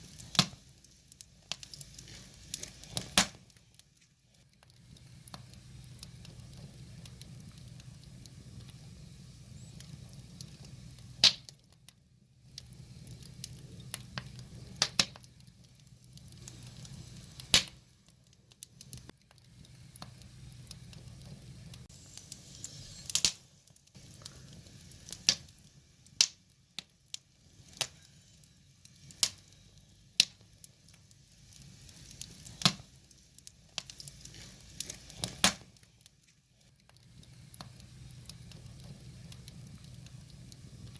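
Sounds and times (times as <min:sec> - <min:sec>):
logs popping and snapping: 0:00.0 - 0:08.8, 0:09.6 - 0:28.0, 0:30.2 - 0:40.9
flames hissing: 0:00.0 - 0:11.6, 0:12.4 - 0:40.9.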